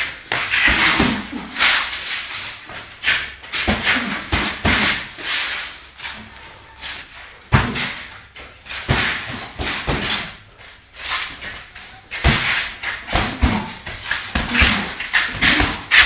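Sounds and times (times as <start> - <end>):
boxing gloves thudding and slapping: 0.0 - 5.4, 7.5 - 10.4, 11.0 - 16.0.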